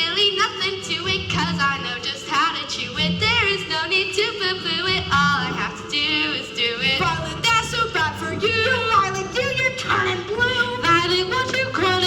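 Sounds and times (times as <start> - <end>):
musical accompaniment: 0.0 - 12.0
woman singing: 0.0 - 12.0.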